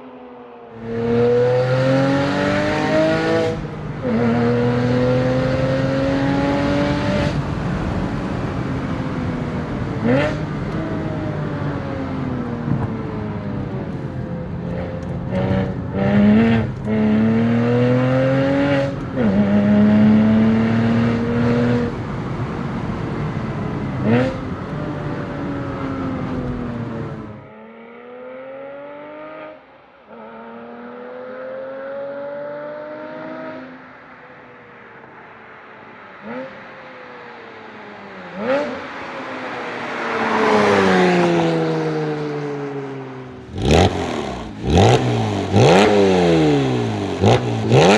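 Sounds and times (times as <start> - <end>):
car engine accelerating hard: 0.7 - 34.3, 36.2 - 47.9.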